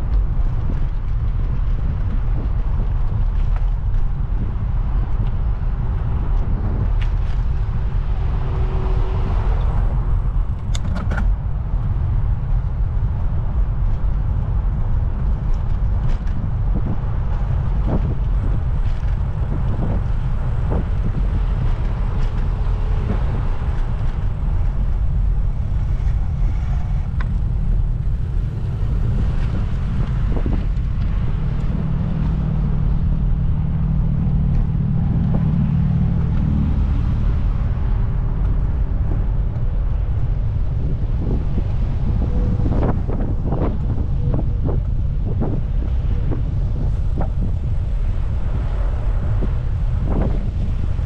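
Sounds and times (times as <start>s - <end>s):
street traffic: 0.0s - 51.0s
wind buffeting microphone: 0.0s - 51.0s.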